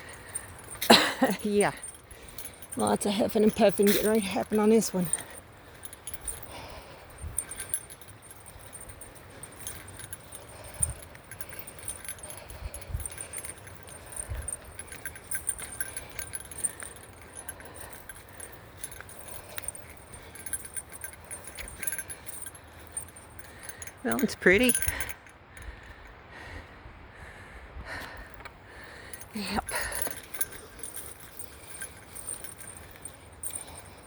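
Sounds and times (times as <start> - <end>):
small metal bell jingling: 0.0 - 26.5, 27.9 - 34.0.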